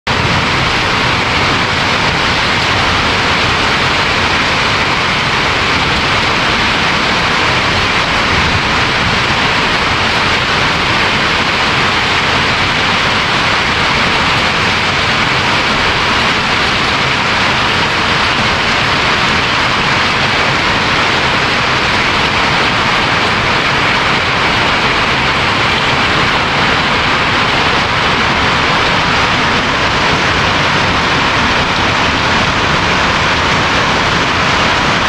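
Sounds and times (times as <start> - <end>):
hail and heavy rain: 0.1 - 35.0.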